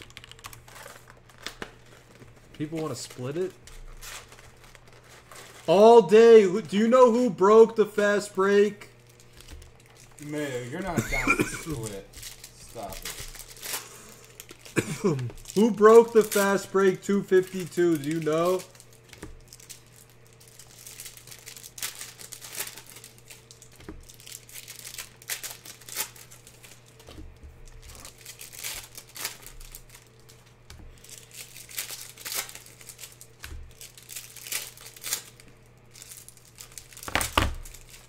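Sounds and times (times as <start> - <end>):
packaging crinkling and rustling: 0.0 - 6.1, 8.9 - 38.0
faint electrical hum: 0.0 - 38.0.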